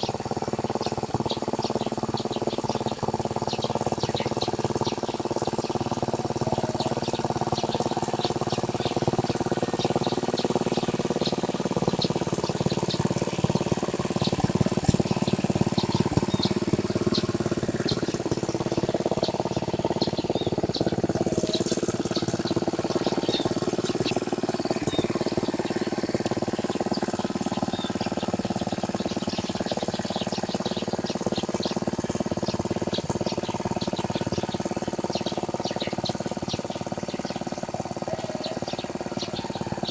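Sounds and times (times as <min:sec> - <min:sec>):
birds chirping: 0:00.0 - 0:39.9
small tractor engine running: 0:00.0 - 0:39.9.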